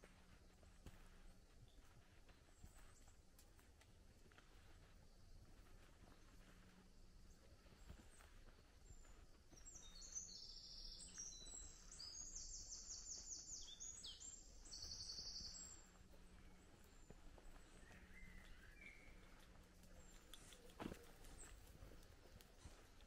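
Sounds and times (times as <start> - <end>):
quiet woodland background: 0.0 - 23.0.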